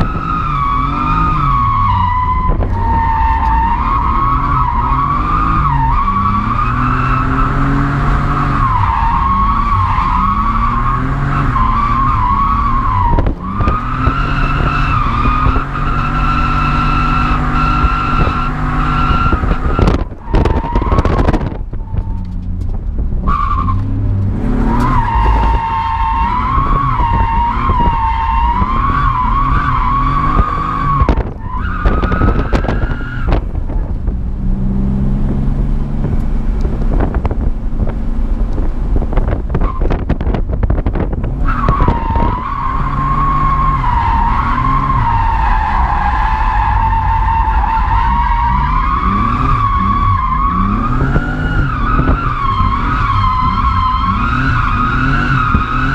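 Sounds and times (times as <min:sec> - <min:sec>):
car tyres squealing: 0:00.0 - 0:34.2, 0:35.8 - 0:55.9
car engine revving: 0:00.0 - 0:55.9.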